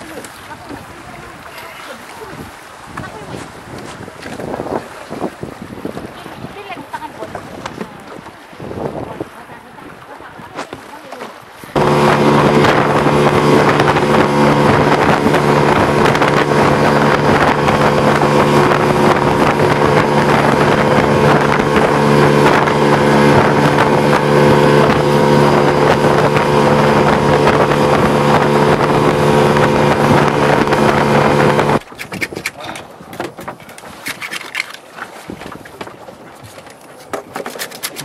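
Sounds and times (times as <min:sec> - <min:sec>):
outboard motor droning: 0:00.0 - 0:38.0
rush of wind and water: 0:00.0 - 0:38.0.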